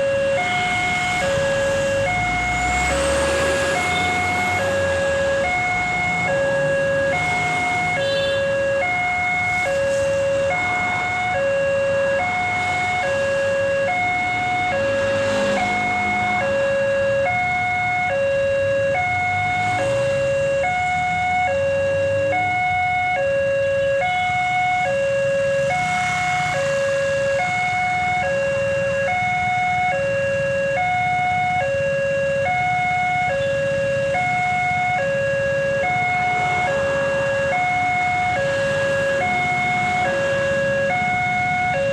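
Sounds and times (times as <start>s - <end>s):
level crossing warning siren: 0.0s - 41.9s
road traffic rumble: 0.0s - 41.9s.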